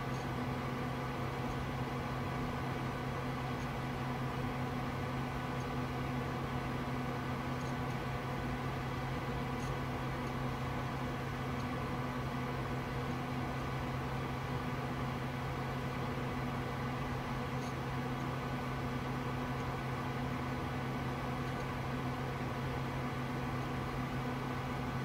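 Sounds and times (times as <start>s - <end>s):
computer fans humming: 0.0s - 25.0s.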